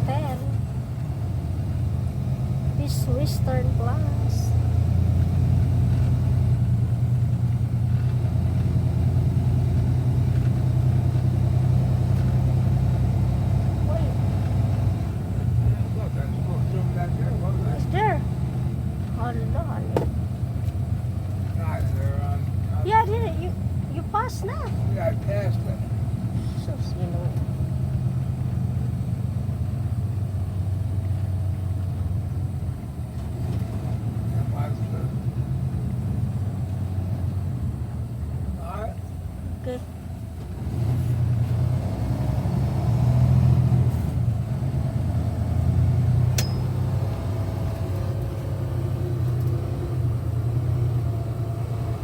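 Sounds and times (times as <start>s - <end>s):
truck engine drone: 0.0s - 52.0s.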